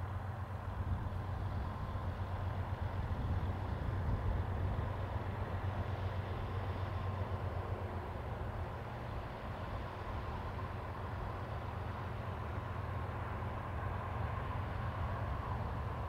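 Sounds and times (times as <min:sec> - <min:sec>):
distant diesel locomotive drone: 0:00.0 - 0:16.0.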